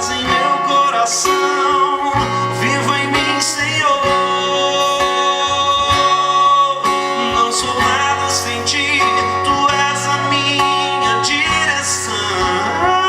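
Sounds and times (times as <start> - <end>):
instrumental worship music with guitar: 0.0 - 13.0.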